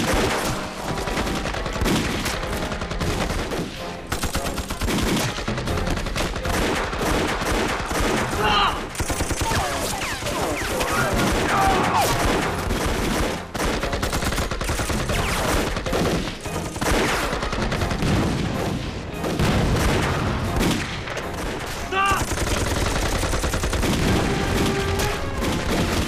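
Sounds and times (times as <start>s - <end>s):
dense gunfire: 0.0s - 9.9s, 10.6s - 26.0s.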